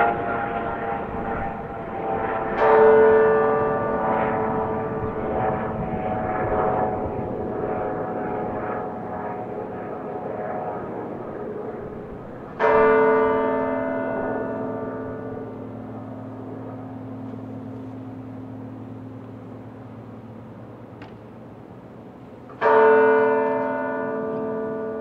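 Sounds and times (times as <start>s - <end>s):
large bell tolling: 0.0s - 20.7s, 22.5s - 25.0s.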